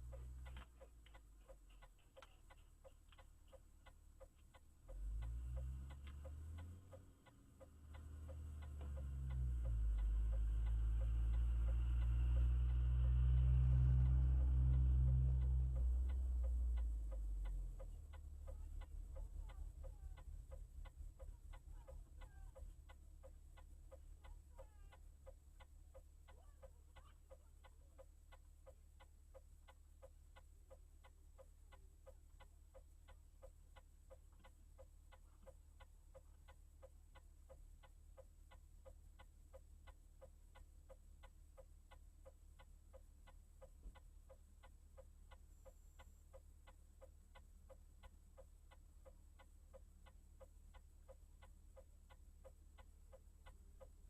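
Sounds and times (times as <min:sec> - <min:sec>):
faint even ticking: 0:00.0 - 0:54.0
steady low hum: 0:00.0 - 0:54.0.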